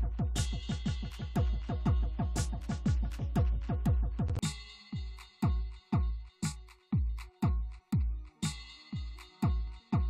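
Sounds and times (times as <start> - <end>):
electronic kick drum: 0.0 - 10.0.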